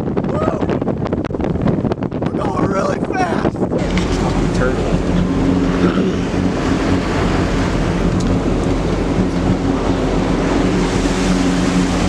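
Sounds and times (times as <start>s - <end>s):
boat engine hum: 0.0s - 12.0s
rushing water: 0.0s - 12.0s
wind noise on microphone: 0.0s - 12.0s.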